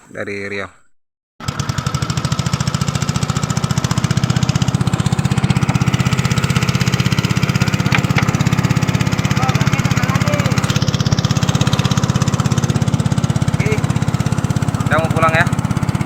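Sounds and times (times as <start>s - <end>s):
small engine puttering: 1.4s - 16.0s.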